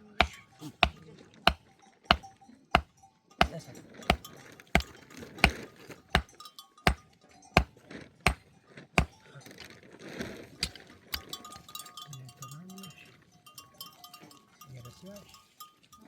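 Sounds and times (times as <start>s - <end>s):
livestock bells tinkling: 0.0s - 9.7s, 11.2s - 16.0s.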